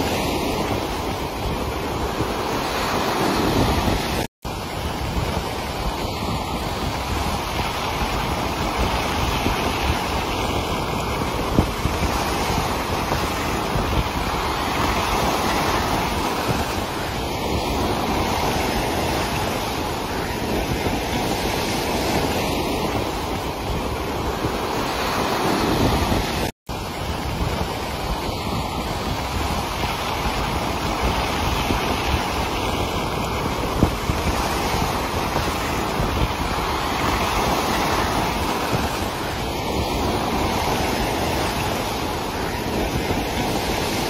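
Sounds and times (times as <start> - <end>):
sea waves breaking: 0.0 - 44.0.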